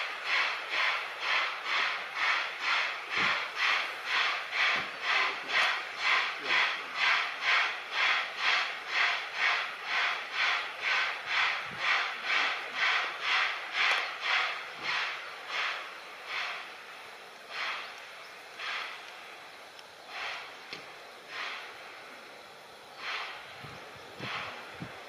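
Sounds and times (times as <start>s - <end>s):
steam locomotive chuffing: 0.0s - 25.0s.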